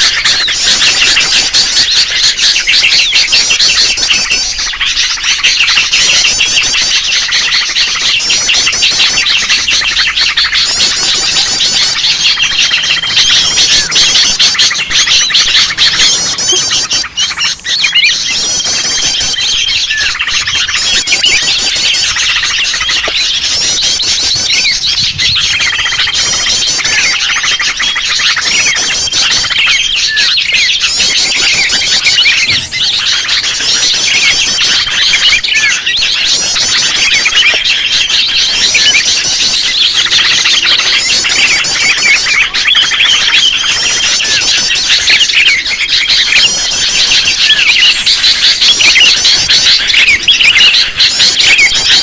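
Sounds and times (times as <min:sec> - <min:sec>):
bulbuls chattering and calling: 0:00.0 - 0:52.0.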